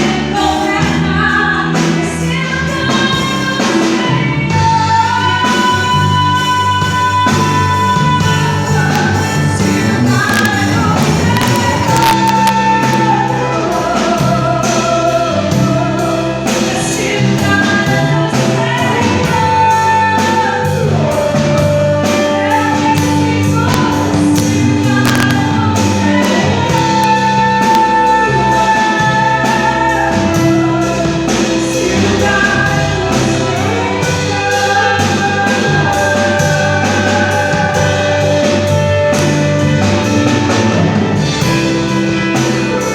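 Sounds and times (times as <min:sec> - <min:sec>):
bass: 0:00.0 - 0:42.9
drums: 0:00.0 - 0:42.9
person singing: 0:00.0 - 0:42.9.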